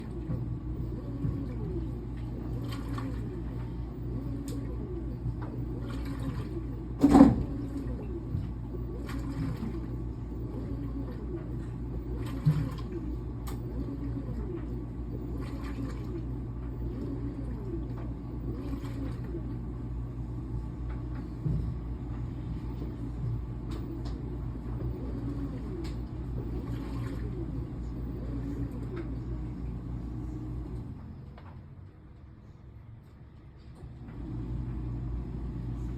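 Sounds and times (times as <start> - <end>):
water and clothes churning: 0.0 - 20.0, 20.6 - 30.0
washing machine motor hum: 0.0 - 35.9.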